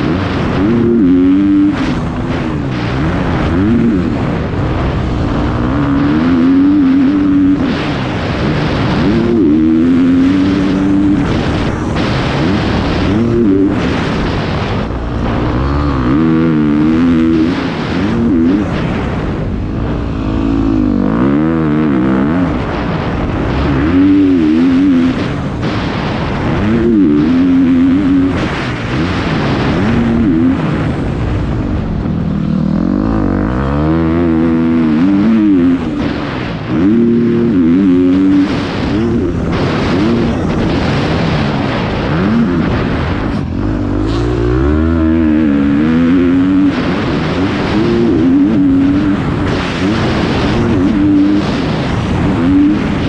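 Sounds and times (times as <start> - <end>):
motocross bike engine revving: 0.0 - 53.0
wind rush: 0.0 - 53.0.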